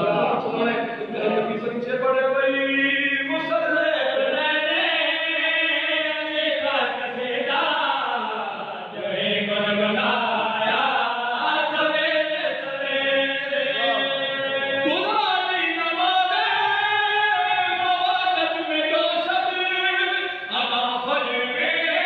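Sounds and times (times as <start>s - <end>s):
man chanting into microphone: 0.0s - 22.0s.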